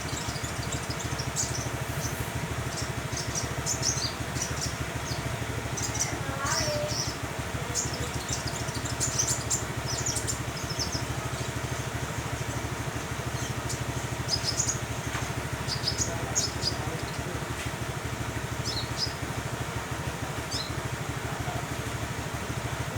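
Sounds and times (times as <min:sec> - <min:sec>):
bird chirps and twitters: 0:00.0 - 0:19.6, 0:20.4 - 0:22.6
low motor hum: 0:00.0 - 0:22.9.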